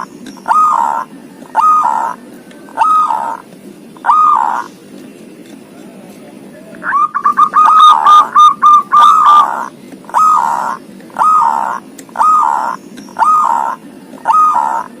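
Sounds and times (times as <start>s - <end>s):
dove singing and cooing: 0.0s - 15.0s.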